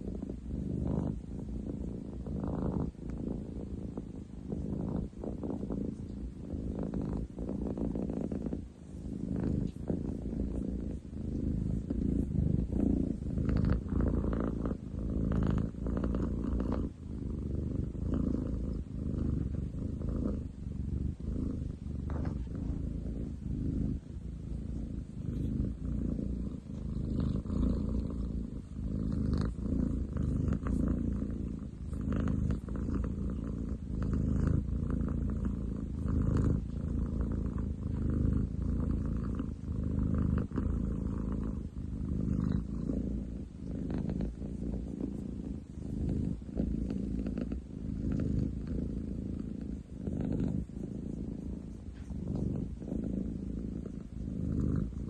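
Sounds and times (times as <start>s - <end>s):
cat purring loudly: 0.0s - 55.0s.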